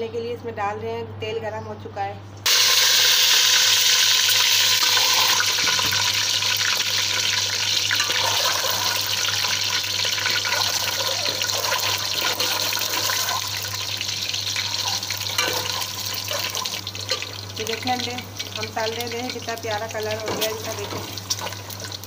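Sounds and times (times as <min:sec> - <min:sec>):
eggs sizzling in hot oil: 0:02.5 - 0:22.0.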